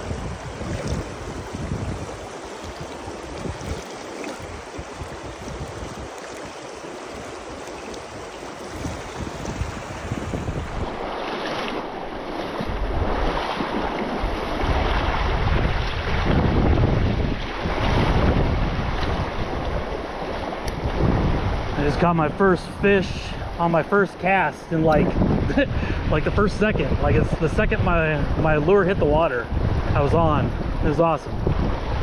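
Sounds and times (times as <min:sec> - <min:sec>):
wind buffeting the microphone: 0:00.0 - 0:32.0.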